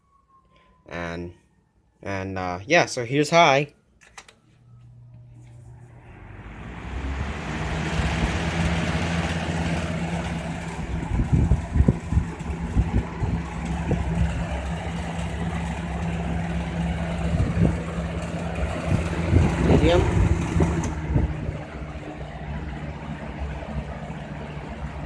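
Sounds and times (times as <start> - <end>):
box fan motor hum and air rush: 4.1 - 25.0.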